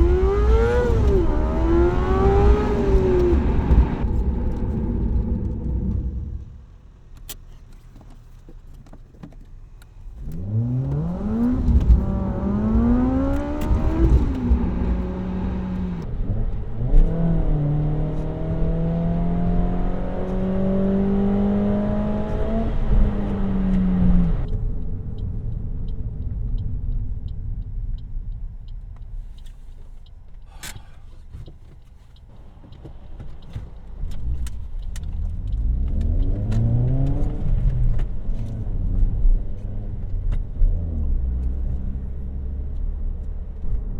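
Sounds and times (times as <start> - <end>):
car engine accelerating: 0.0 - 7.4, 10.0 - 43.9.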